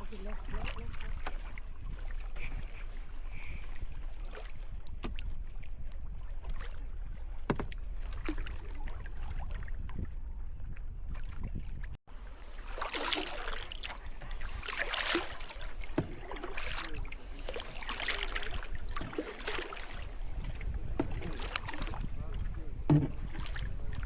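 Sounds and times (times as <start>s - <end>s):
low wind rumble: 0.0s - 24.0s
paddle splashing in water: 0.0s - 24.0s.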